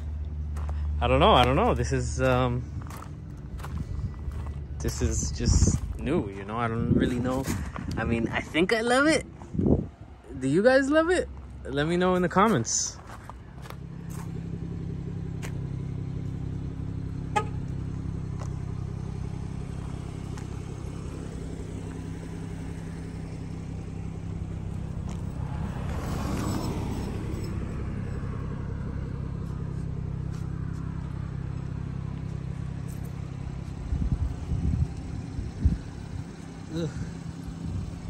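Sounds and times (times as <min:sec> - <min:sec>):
car engine idling: 0:00.0 - 0:38.0
vehicle passing: 0:00.0 - 0:38.0.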